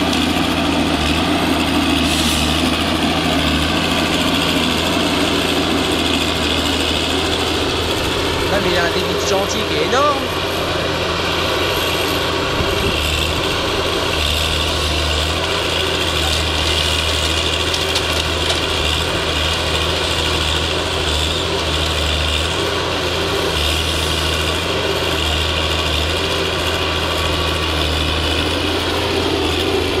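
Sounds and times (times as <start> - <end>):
diesel engine droning: 0.0 - 30.0.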